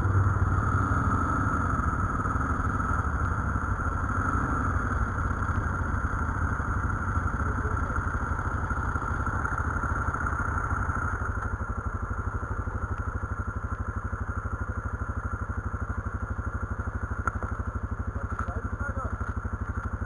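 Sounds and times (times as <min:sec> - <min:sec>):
quad bike engine idling: 0:00.0 - 0:20.0.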